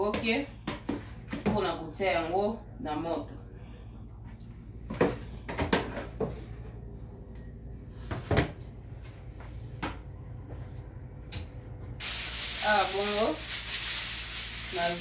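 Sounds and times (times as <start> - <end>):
low steady hum: 0.0 - 12.8.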